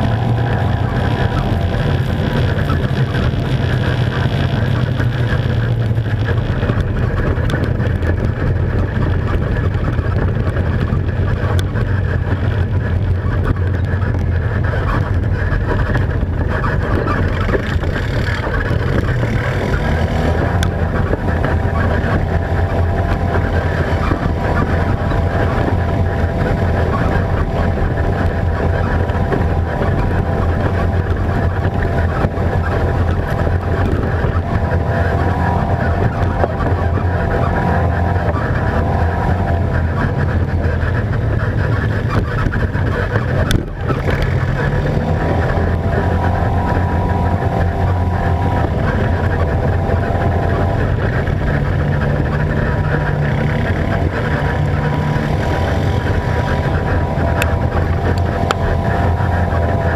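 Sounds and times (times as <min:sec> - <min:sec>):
atv engine running hard: 0:00.0 - 0:59.9.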